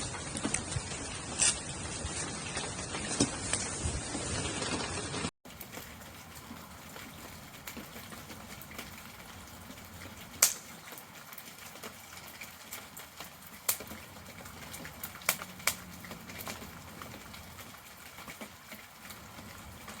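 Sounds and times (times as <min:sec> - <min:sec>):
wood fire hissing and crackling: 0:00.0 - 0:20.0.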